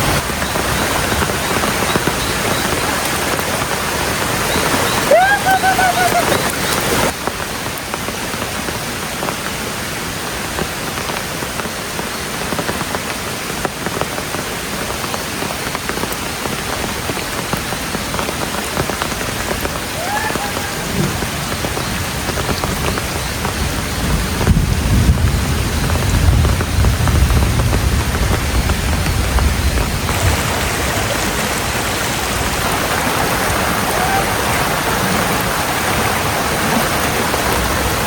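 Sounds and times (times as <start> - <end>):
heavy rain pattering: 0.0 - 38.0.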